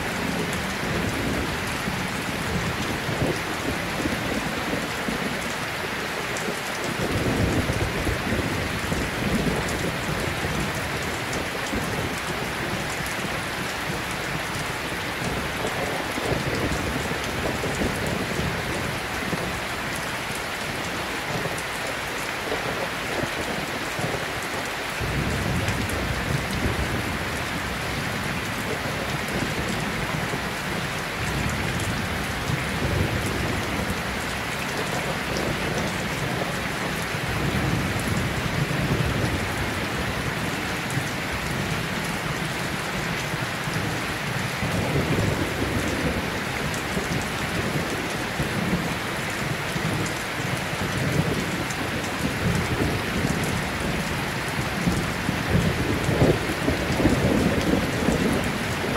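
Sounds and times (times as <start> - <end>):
heavy rain-like noise: 0.0 - 58.9.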